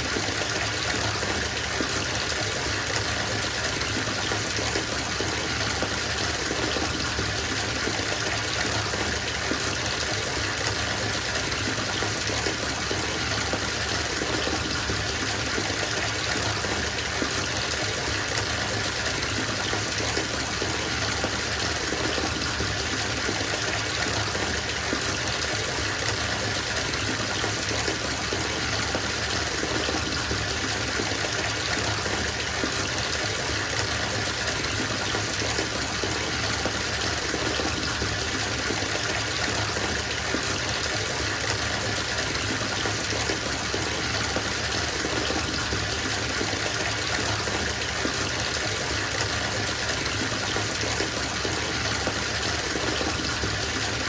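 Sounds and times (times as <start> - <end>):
water gushing into bathtub: 0.0 - 54.0.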